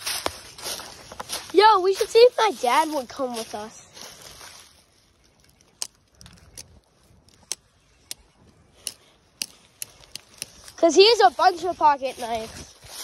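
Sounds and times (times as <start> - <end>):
footsteps on dry leaves and twigs: 0.0 - 13.0.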